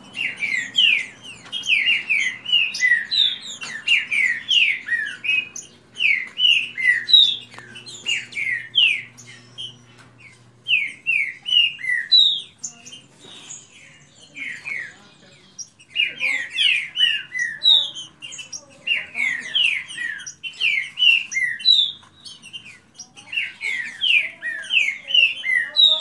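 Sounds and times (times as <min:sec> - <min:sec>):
birds singing: 0:00.0 - 0:26.0.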